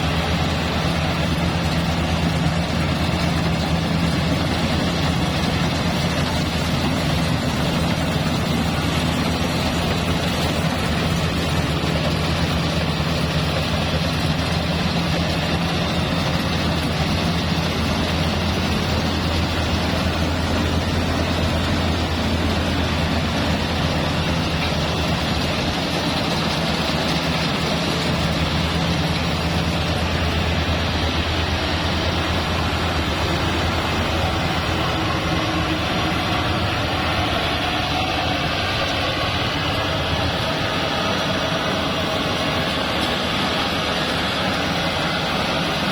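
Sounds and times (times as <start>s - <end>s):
thresher engine hum: 0.0s - 45.9s.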